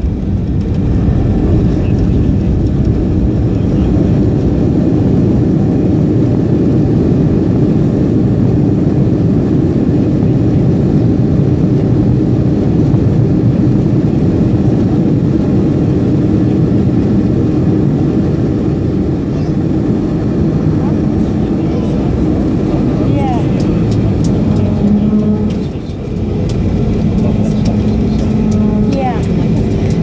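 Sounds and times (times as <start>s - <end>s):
airplane cabin low rumble: 0.0s - 30.0s.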